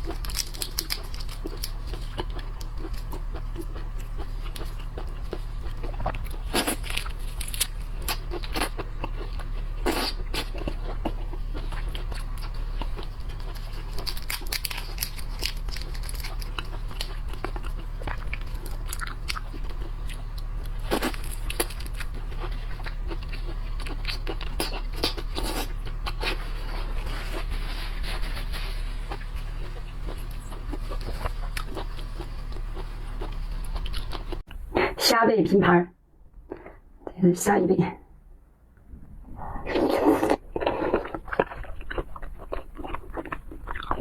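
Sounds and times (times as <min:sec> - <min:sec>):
crunching and chewing seafood: 0:00.0 - 0:35.0, 0:39.6 - 0:44.0
steady low hum: 0:00.0 - 0:44.0.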